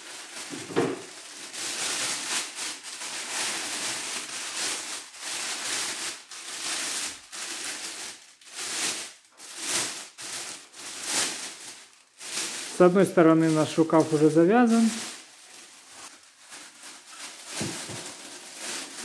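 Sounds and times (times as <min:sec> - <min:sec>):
plastic sleeve rustling and crinkling: 0:00.0 - 0:19.0.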